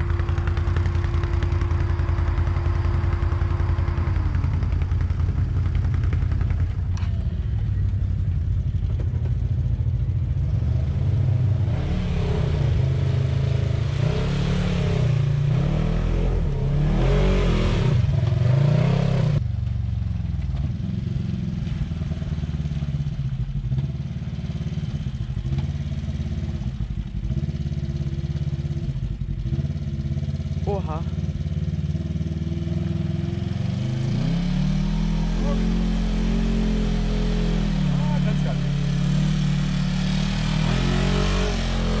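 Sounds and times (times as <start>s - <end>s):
off-road vehicle engine revving: 0.0s - 19.4s, 20.5s - 42.0s.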